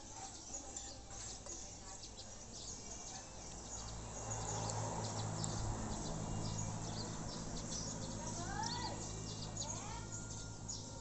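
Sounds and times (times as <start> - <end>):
small birds or insects chirping: 0.0 - 11.0.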